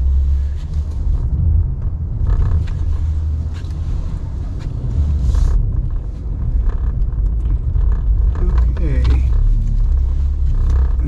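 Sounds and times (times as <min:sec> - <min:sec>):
pickup truck engine rumbling: 0:00.0 - 0:11.0.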